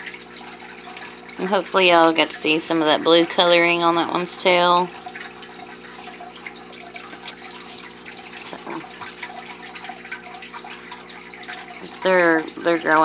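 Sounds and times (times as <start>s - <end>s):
aquarium water bubbling: 0.0s - 13.0s.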